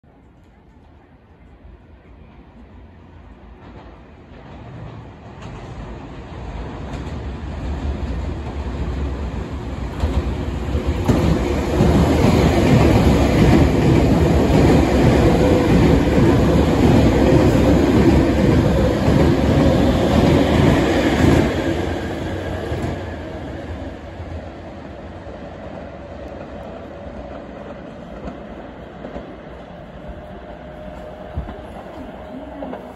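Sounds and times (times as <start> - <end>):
train passing: 0.2 - 32.9.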